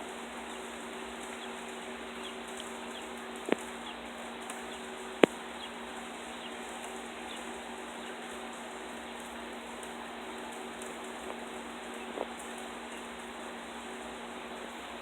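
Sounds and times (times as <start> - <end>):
rain patter: 0.0 - 15.0.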